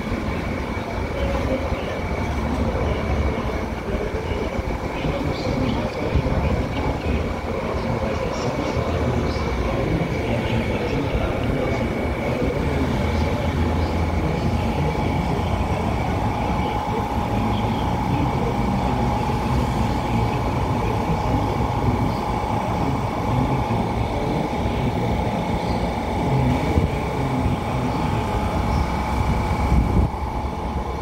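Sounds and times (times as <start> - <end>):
train equipment humming and whining: 0.0 - 31.0.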